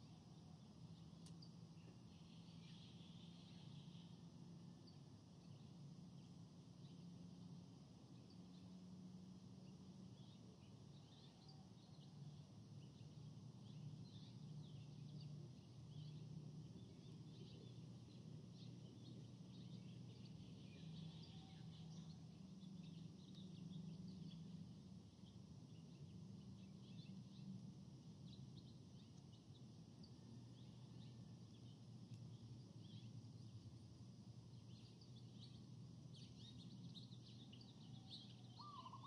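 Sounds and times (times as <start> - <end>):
low steady hum: 0.0 - 39.0
small birds chirping: 0.0 - 39.0.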